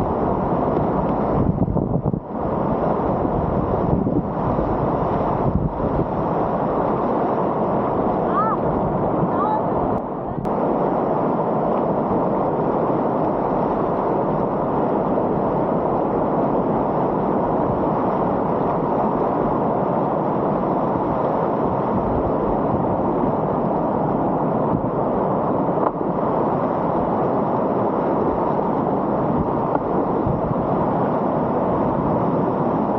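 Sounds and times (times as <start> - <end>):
whitewater rapids roaring: 0.0 - 32.9.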